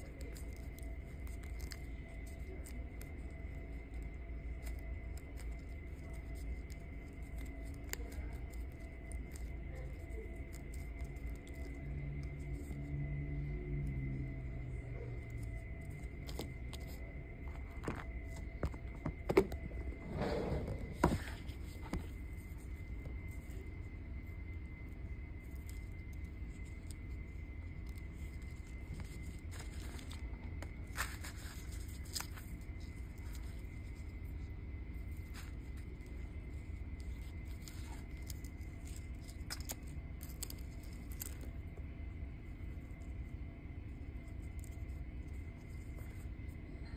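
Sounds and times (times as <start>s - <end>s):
steady low rumble: 0.0s - 46.9s.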